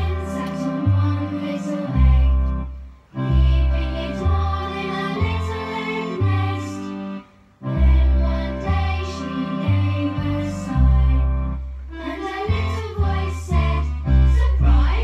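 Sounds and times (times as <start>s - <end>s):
bass line held notes: 0.0s - 15.0s
song with singing: 0.0s - 15.0s.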